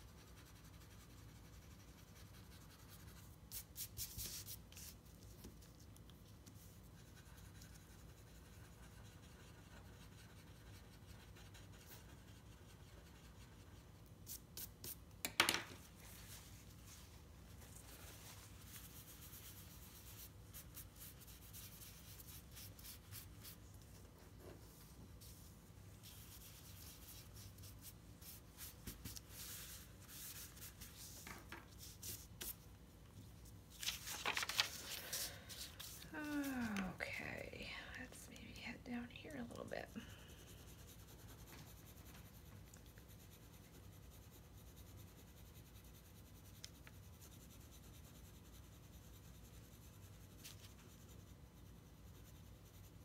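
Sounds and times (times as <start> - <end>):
tissue rubbing on paper: 0.0 - 15.0, 15.8 - 37.5, 39.6 - 53.0
pencil strokes on paper: 0.0 - 15.1, 15.9 - 53.0.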